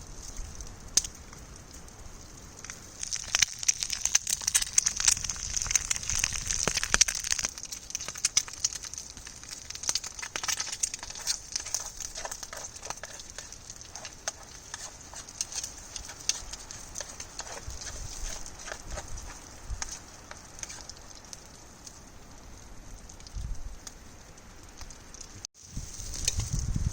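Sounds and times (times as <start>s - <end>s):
bacon and egg sizzling in a pan: 0.0s - 26.9s
campfire crackling and popping: 0.0s - 26.9s.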